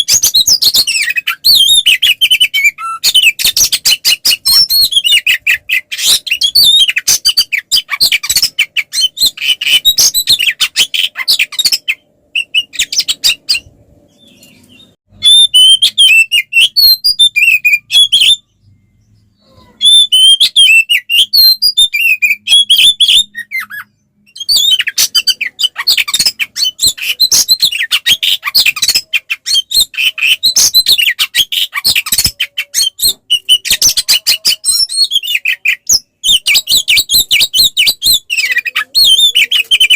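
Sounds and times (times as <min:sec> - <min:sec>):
bird chattering and whistling: 0:00.0 - 0:18.7, 0:19.4 - 0:39.9.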